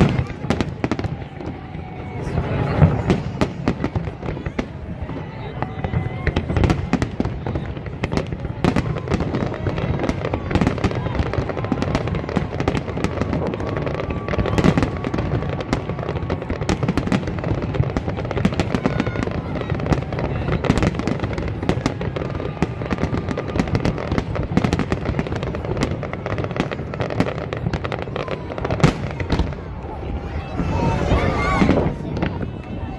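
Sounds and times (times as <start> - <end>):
fireworks bangs and crackles: 0.0 - 32.9.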